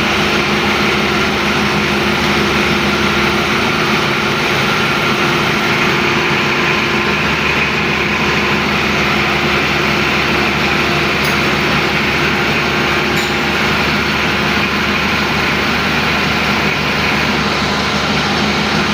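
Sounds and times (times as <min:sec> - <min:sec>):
paving machine engine droning: 0:00.0 - 0:18.9.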